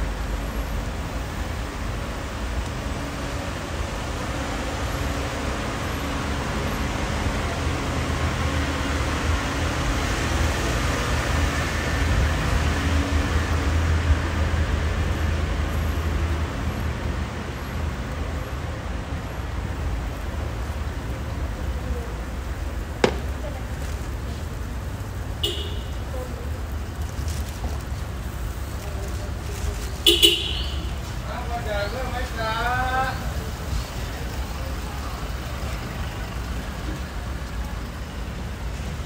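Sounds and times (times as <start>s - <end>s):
road traffic rumbling: 0.0s - 39.0s.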